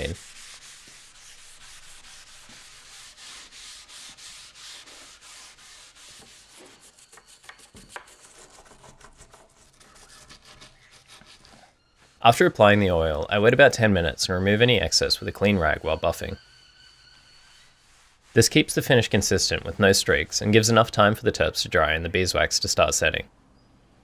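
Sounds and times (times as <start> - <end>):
steel wool scrubbing wood: 0.0 - 13.2, 14.5 - 21.1.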